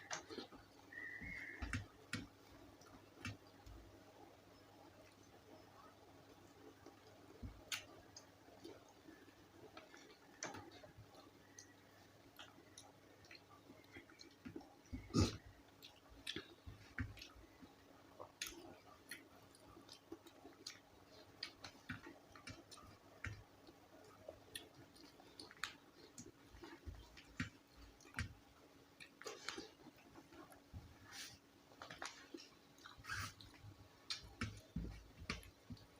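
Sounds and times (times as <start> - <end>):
person chewing with wet clicks: 0.0 - 35.9.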